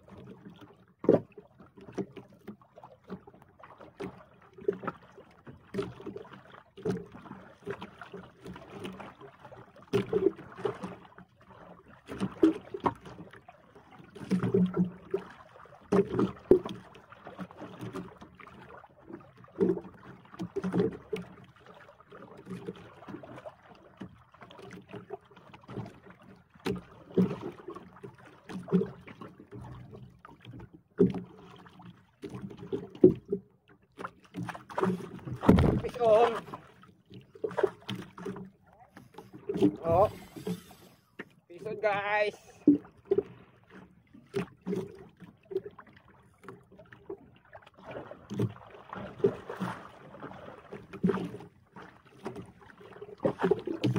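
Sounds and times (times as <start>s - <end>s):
waves slapping against boat hull: 0.0s - 53.9s
wind: 0.0s - 53.9s.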